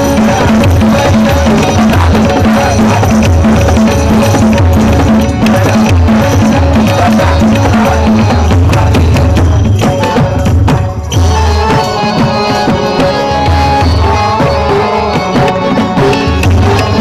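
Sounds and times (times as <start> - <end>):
devotional drumming: 0.0 - 17.0
harmonium: 0.0 - 17.0.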